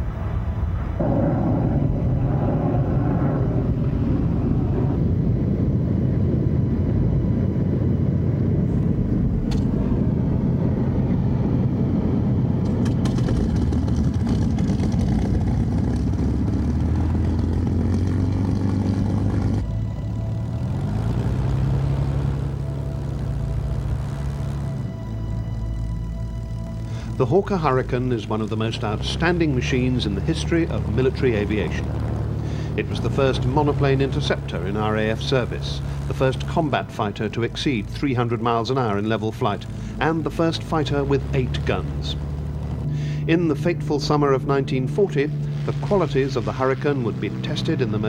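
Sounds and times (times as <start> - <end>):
piston aircraft engine running: 0.0 - 48.0.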